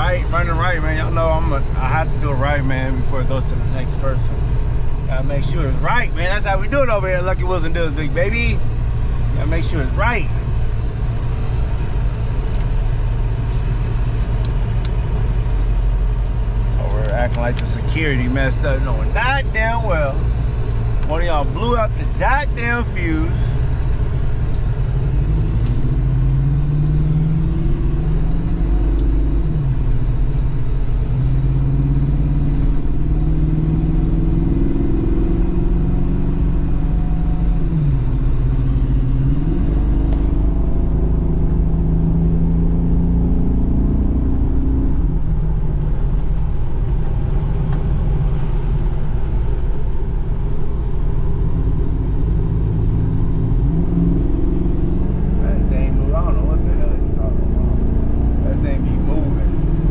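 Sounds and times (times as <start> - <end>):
car engine running: 0.0 - 59.9
road rumble: 0.0 - 59.9.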